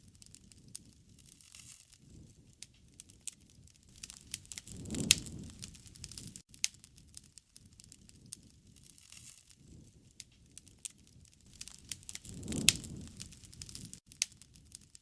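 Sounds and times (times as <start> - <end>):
bonfire crackling and popping: 0.0 - 15.0
low rush of flame: 2.0 - 15.0.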